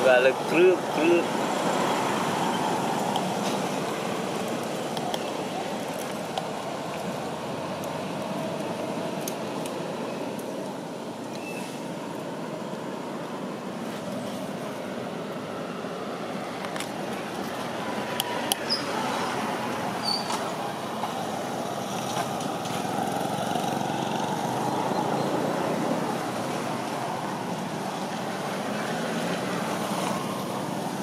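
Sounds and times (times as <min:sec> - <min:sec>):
hiss and rumble of traffic: 0:00.0 - 0:31.0.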